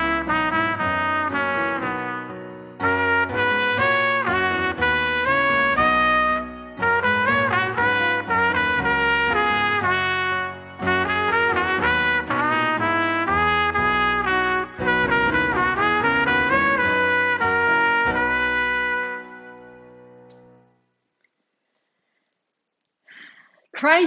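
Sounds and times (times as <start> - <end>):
brass music led by trumpet: 0.0 - 20.2.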